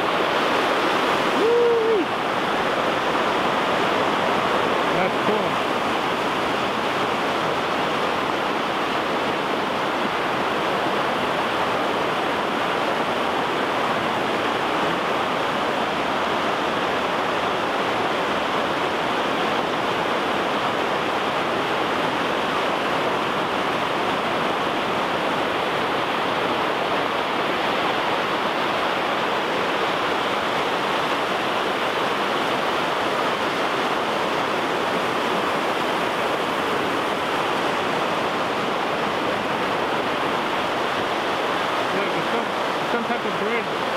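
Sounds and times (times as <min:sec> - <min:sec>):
water rushing over boulders: 0:00.0 - 0:43.9.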